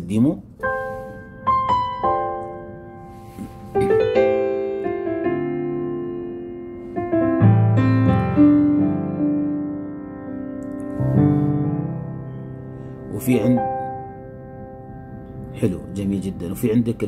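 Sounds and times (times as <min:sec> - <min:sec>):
piano melody over held chords: 0:00.0 - 0:17.0.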